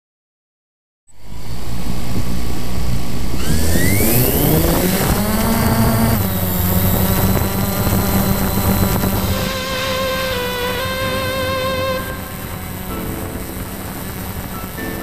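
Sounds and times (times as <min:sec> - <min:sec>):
drone motors whining and buzzing: 0:01.2 - 0:15.0.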